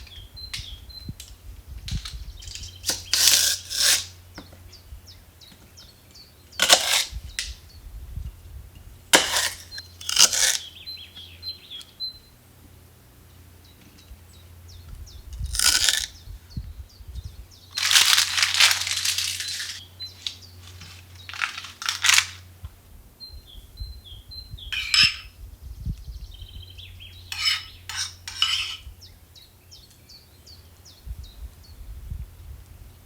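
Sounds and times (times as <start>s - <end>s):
small birds chirping: 0.0s - 22.4s, 23.2s - 33.0s.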